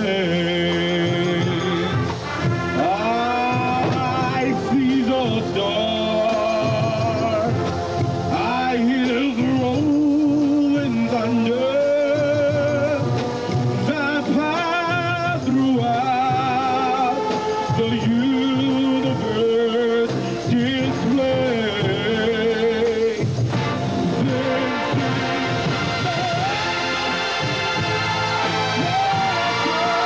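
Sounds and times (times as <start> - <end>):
marching band playing slow melody: 0.0 - 30.0.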